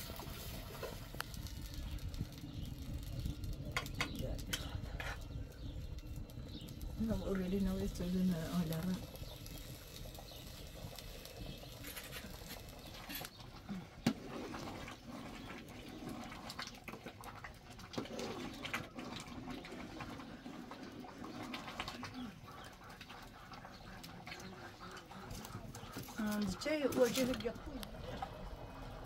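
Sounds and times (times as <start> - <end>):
birds calling: 0.4 - 16.2, 19.4 - 29.0.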